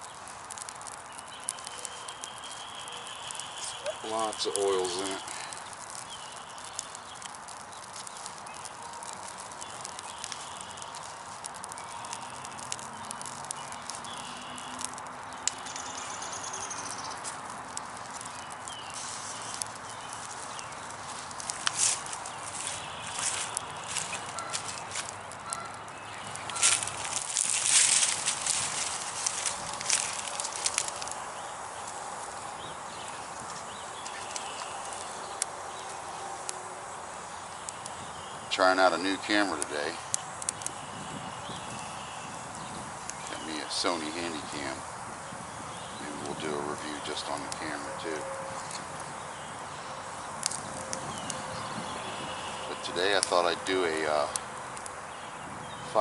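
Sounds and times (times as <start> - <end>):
birds calling: 0.0 - 56.0
campfire crackling and popping: 0.0 - 56.0.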